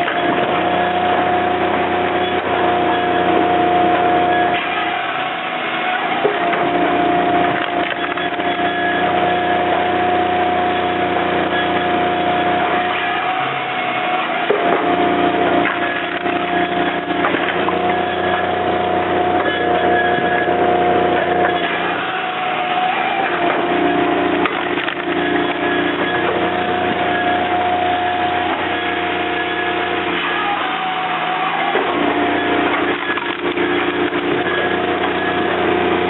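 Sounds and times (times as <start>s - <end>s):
hydraulic motor whining: 0.0s - 36.0s
wood cracking and splintering: 0.0s - 36.0s.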